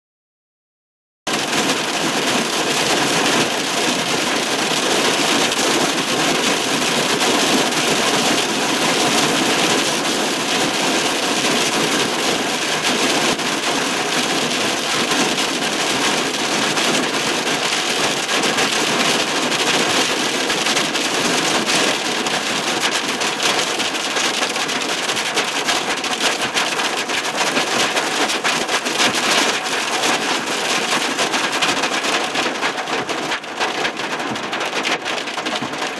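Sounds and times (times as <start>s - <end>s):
hail and rain on car roof: 1.3s - 35.9s.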